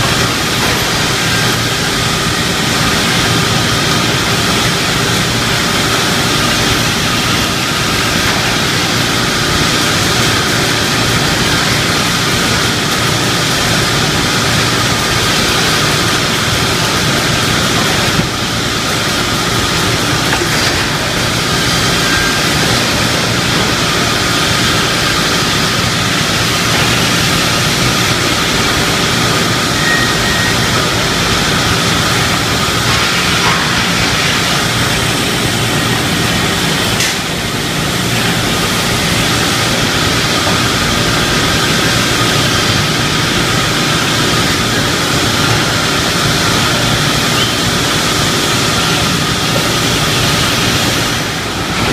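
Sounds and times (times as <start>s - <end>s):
saw machine drone: 0.0s - 51.9s.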